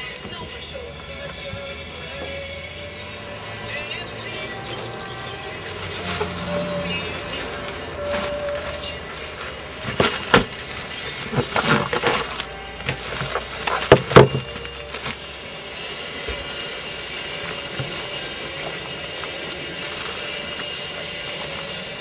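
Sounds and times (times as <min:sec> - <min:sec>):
cling film crinkling: 0:03.4 - 0:22.0.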